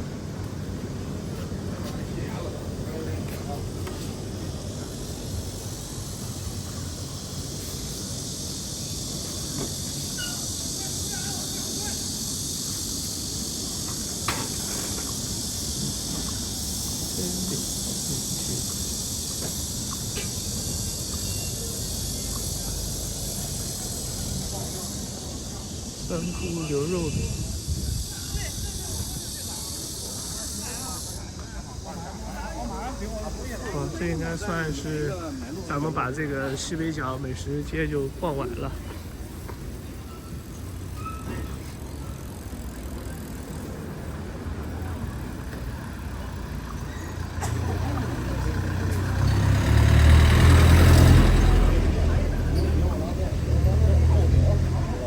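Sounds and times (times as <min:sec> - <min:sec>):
distant voices: 0:00.0 - 0:55.0
high street hiss: 0:00.0 - 0:55.0
low traffic rumble: 0:00.0 - 0:55.0.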